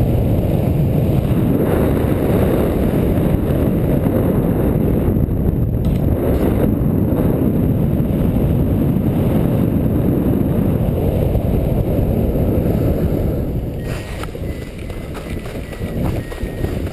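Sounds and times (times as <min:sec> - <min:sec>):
wind rumbling over microphone: 0:00.0 - 0:16.9.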